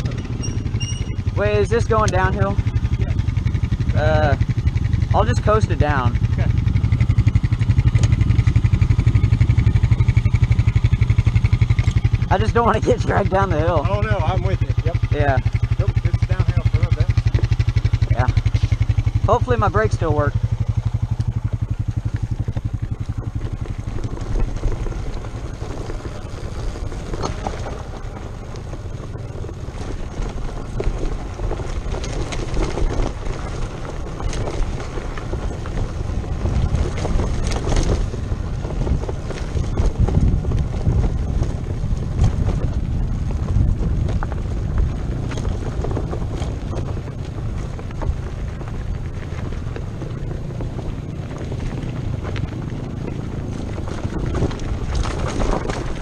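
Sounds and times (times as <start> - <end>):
dirt bike rumbling and clattering: 0.0 - 56.0
wind buffeting microphone: 0.0 - 56.0.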